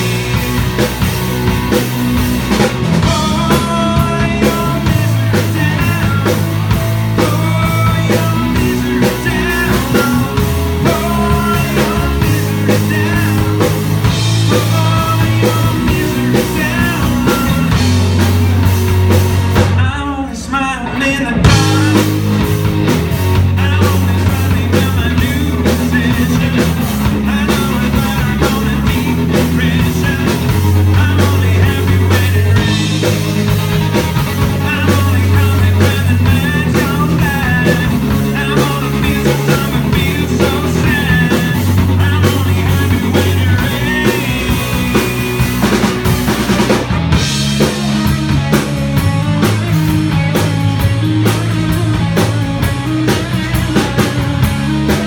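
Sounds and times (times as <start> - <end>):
live rock band playing: 0.0 - 55.0
person singing lead vocals: 0.0 - 55.0.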